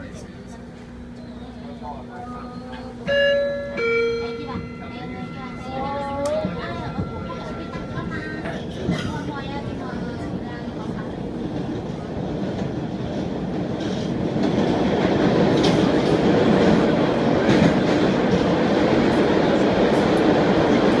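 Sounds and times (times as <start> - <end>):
subway wheels rumbling on rails: 0.0 - 21.0.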